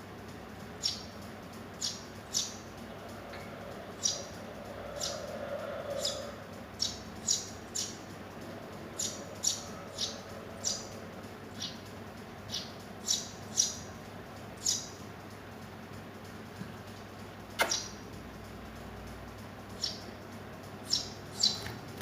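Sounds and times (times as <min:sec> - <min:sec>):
bird chicks chirping: 0:00.3 - 0:15.5, 0:16.8 - 0:21.8.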